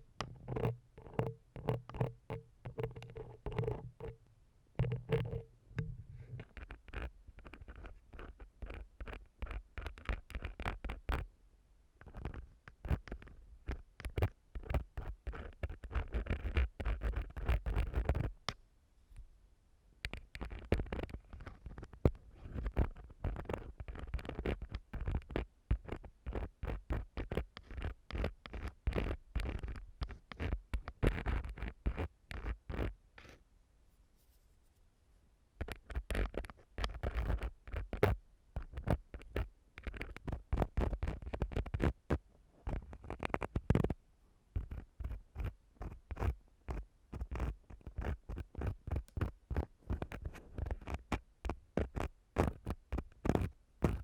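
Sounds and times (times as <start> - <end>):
tool scratching microphone: 0.2 - 4.2, 4.8 - 11.2, 12.0 - 18.3, 20.2 - 33.4, 35.6 - 44.0, 44.6 - 54.0.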